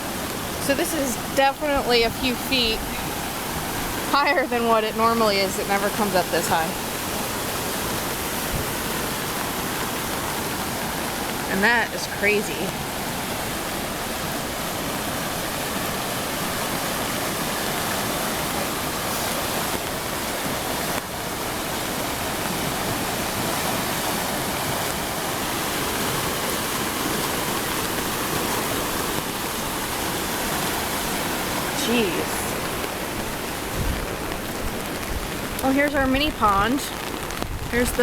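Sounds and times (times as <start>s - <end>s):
flooded creek rushing: 0.0s - 38.0s.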